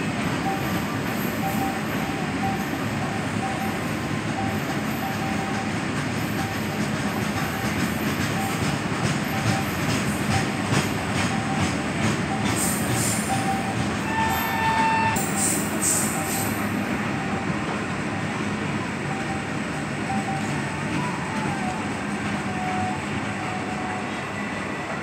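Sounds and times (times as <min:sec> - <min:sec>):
freight train rolling past: 0:00.0 - 0:25.0.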